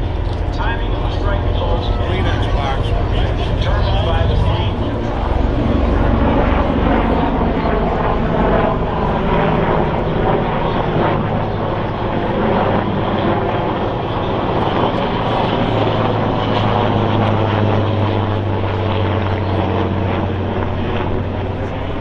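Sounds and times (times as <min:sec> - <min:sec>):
military aircraft engine drone: 0:00.0 - 0:22.0.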